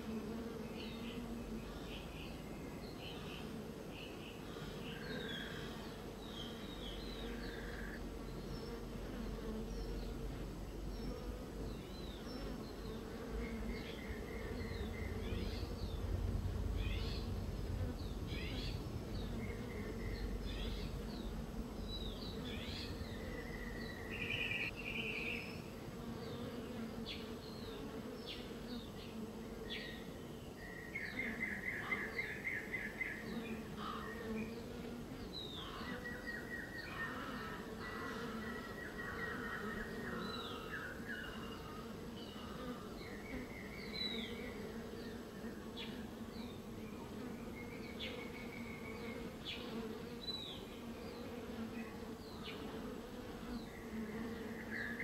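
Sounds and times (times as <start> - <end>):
honeybees buzzing: 0.0 - 55.0
songbirds chirping and trilling: 0.0 - 55.0.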